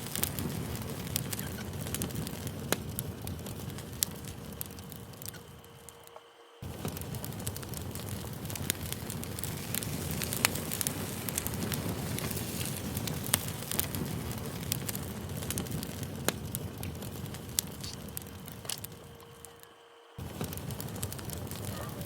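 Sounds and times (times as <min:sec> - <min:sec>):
campfire crackling: 0:00.0 - 0:22.0
fire popping and snapping: 0:00.0 - 0:22.0.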